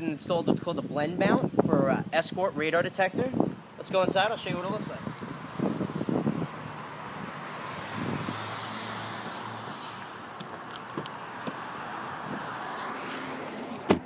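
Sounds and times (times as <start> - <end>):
road traffic: 0.8 - 14.0.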